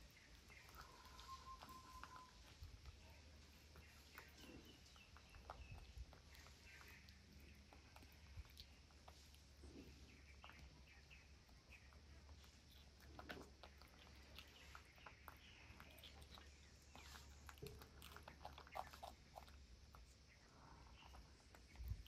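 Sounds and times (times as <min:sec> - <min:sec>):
low steady hum: 0:00.0 - 0:22.0
monkeys chewing food: 0:00.0 - 0:22.0.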